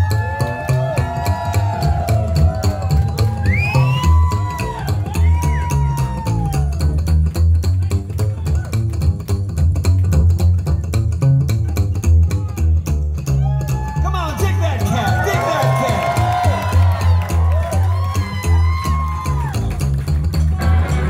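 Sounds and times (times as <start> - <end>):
drums: 0.0 - 21.0
slapped upright bass: 0.0 - 21.0.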